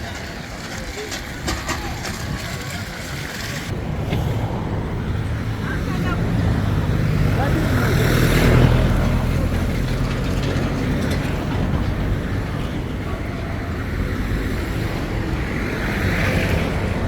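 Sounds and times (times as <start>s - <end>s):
vehicle engine running: 0.0s - 16.1s
traffic noise: 0.0s - 17.0s.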